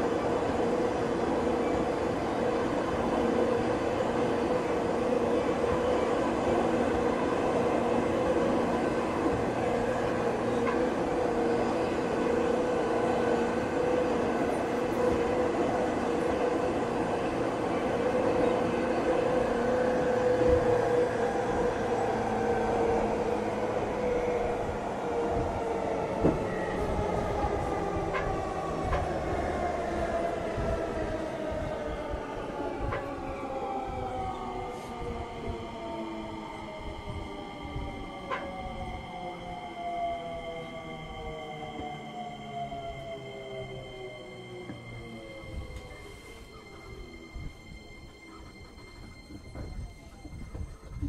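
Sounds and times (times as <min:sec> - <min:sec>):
train running noise with steady hum: 0:00.0 - 0:51.0.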